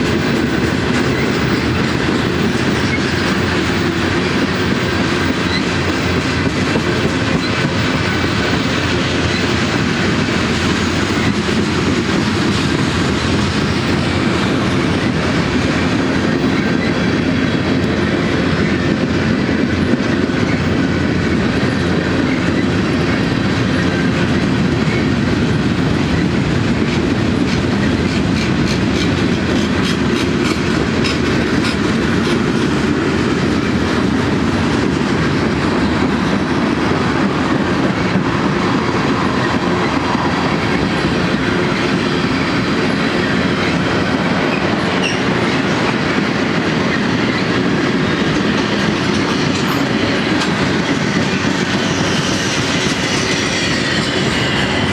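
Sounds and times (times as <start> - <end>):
freight train wheels clattering: 0.0 - 54.9.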